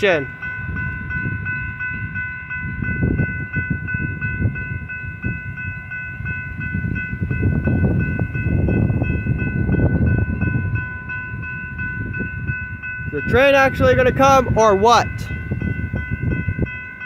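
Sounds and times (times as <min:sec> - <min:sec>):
railroad crossing bell ringing: 0:00.0 - 0:17.0.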